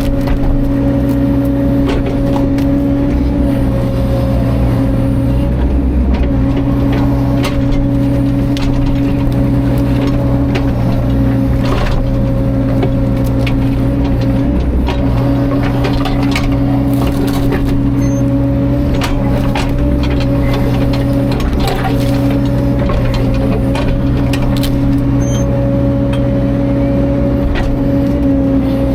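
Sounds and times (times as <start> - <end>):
wood cracking and snapping: 0.0 - 3.9, 5.6 - 25.2
diesel excavator engine running: 0.0 - 28.9.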